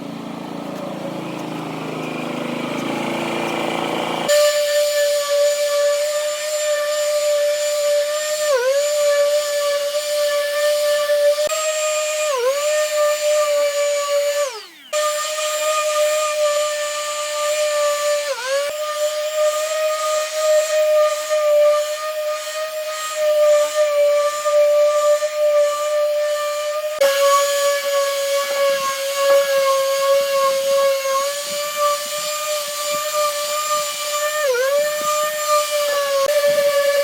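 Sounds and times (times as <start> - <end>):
power tool motor whining: 0.0 - 37.0.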